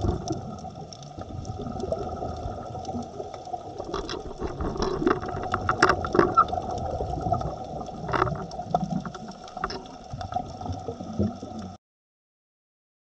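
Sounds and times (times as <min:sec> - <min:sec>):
steady underwater hum: 0:00.0 - 0:11.8
underwater clicks and crackling: 0:00.0 - 0:11.8.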